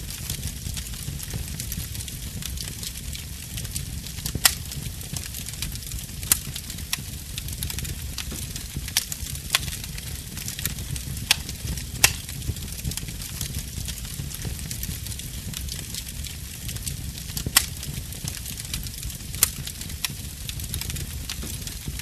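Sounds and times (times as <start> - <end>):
burning wood popping: 0.0 - 22.0
wood fire crackling: 0.0 - 22.0.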